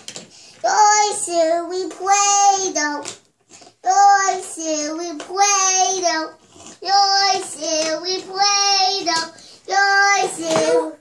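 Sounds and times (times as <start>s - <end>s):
child singing: 0.6s - 3.2s, 3.8s - 11.0s.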